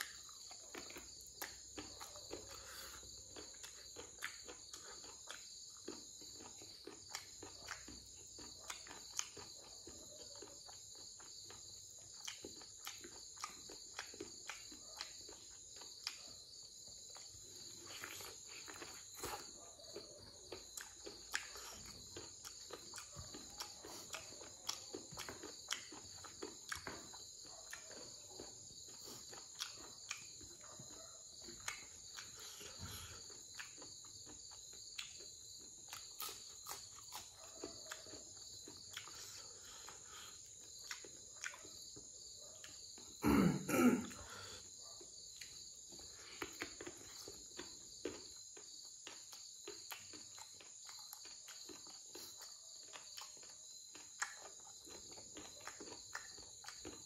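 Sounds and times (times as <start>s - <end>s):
chewing and mouth smacks: 0.0s - 43.2s, 44.0s - 57.0s.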